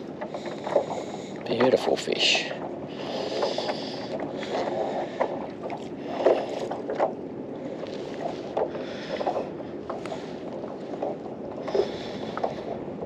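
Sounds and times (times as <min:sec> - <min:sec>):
waves lapping against kayak hull: 0:00.0 - 0:13.0
wind on microphone: 0:00.0 - 0:13.0.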